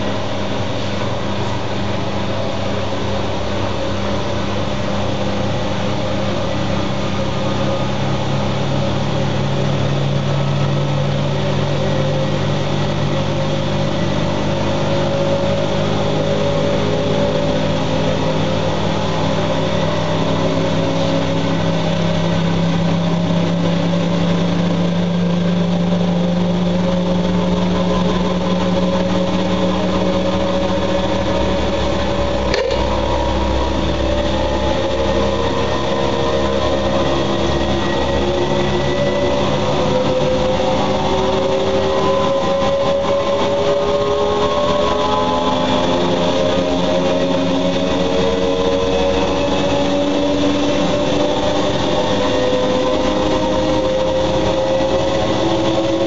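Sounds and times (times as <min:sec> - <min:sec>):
washing machine motor hum and whine: 0:00.0 - 0:56.0.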